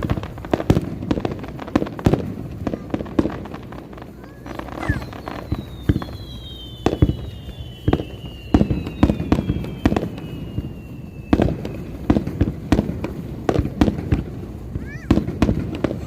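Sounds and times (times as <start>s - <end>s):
fireworks bangs: 0.0s - 16.0s
fireworks whistles gliding down: 0.0s - 16.0s.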